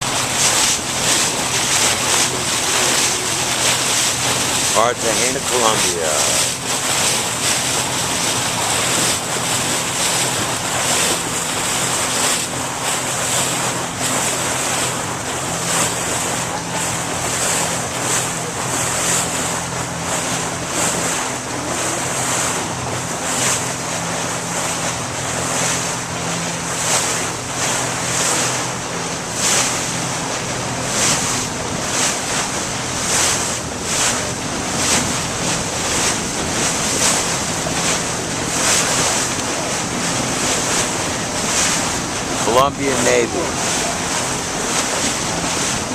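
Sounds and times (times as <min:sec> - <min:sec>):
motorboat engine hum: 0:00.0 - 0:45.9
water rushing against hull: 0:00.0 - 0:45.9.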